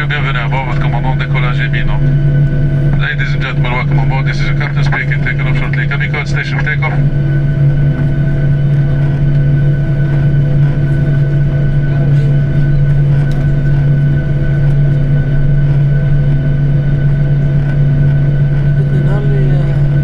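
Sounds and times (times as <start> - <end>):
jet engine high whine: 0.0 - 20.0
jet engines low hum: 0.0 - 20.0.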